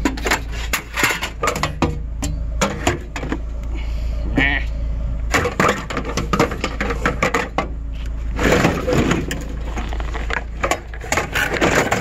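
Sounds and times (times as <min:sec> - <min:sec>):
hard objects clattering: 0:00.0 - 0:03.4, 0:05.3 - 0:12.0
low rumble: 0:00.0 - 0:12.0.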